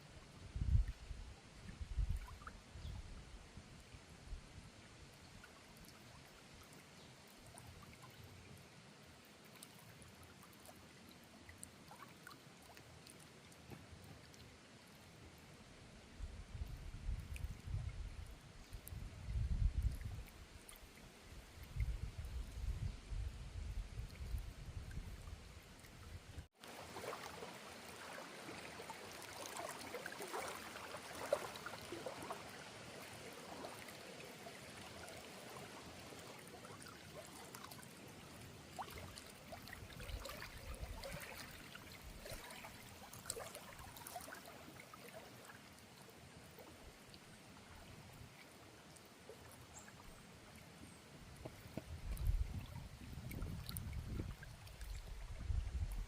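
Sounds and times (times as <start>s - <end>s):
water trickling in river: 0.0s - 56.0s.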